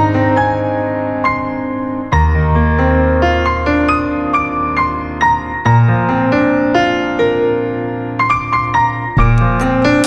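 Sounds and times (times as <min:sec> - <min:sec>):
slow gentle piano music: 0:00.0 - 0:10.0.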